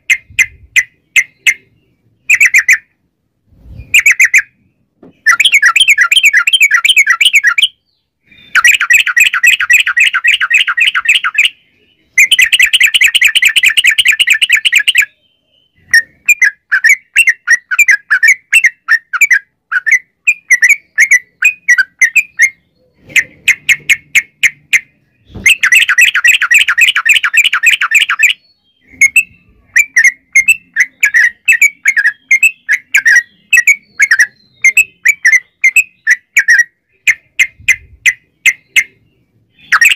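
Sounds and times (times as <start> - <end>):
bird chattering trills: 0.0 - 3.0, 5.2 - 39.9.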